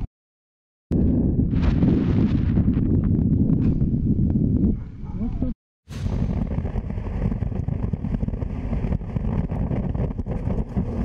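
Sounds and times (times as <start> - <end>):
wind buffeting microphone: 0.9 - 11.0.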